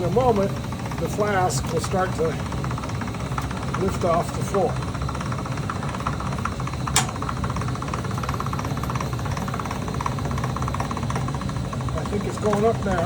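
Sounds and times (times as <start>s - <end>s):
motor running: 0.0s - 13.0s.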